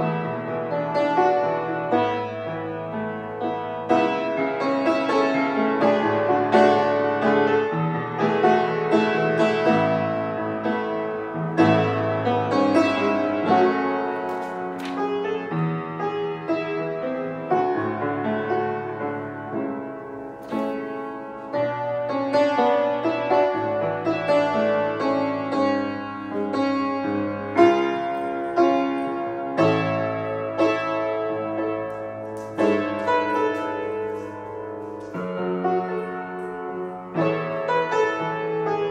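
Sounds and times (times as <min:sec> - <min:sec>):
upright piano playing chords: 0:00.0 - 0:38.9.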